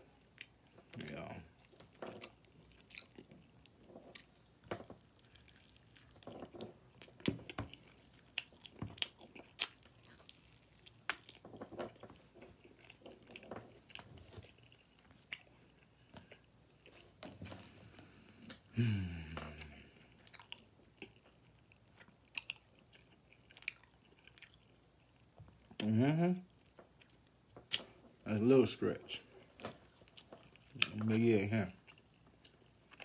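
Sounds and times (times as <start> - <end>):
person chewing: 0.2 - 25.9, 26.5 - 28.0, 29.3 - 31.2, 31.8 - 33.0.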